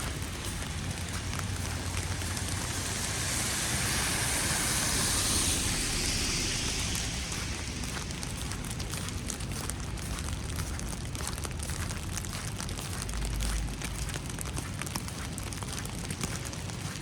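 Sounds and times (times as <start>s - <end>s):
low rumble: 0.0s - 14.5s
wet snow pattering: 0.0s - 17.0s.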